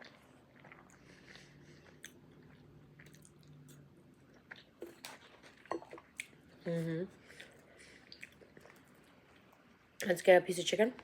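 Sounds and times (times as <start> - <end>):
faint chewing: 0.0 - 6.6, 7.2 - 10.1.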